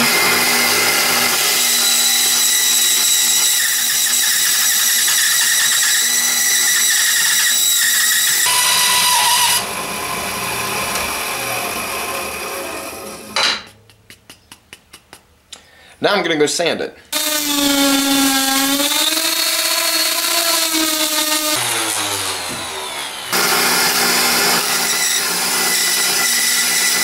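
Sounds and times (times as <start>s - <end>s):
band saw cutting wood: 0.0s - 13.4s, 17.1s - 27.0s.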